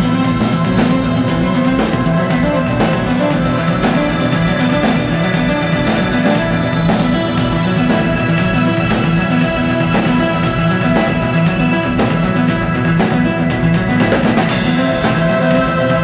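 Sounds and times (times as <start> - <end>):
drum kit cymbal strokes: 0.0 - 16.0
low bass line: 0.0 - 16.0
synthesizer chords: 0.0 - 16.0.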